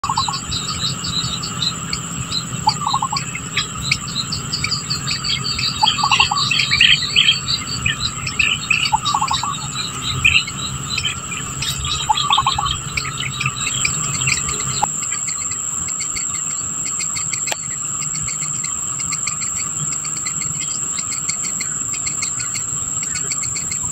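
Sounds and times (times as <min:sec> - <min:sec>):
high-pitched insect drone: 0:00.0 - 0:23.9
small birds chirping: 0:00.0 - 0:23.9.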